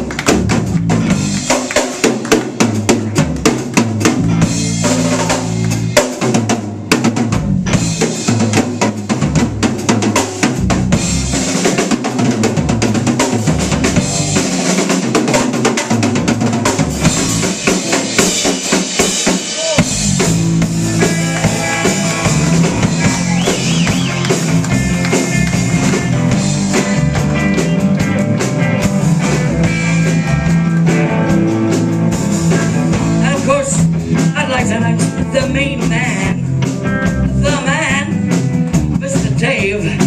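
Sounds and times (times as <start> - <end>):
bass guitar: 0.0 - 40.0
drum kit: 0.0 - 40.0
electric guitars: 0.0 - 40.0.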